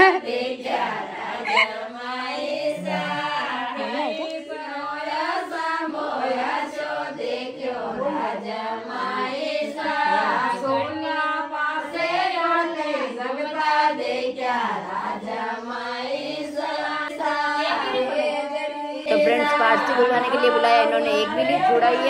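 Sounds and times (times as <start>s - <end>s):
voices chanting together: 0.0s - 22.0s.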